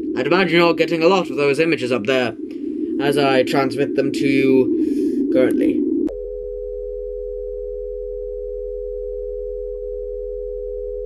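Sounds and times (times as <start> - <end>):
low hum: 0.0 - 11.0
steady electronic tone: 0.0 - 11.0.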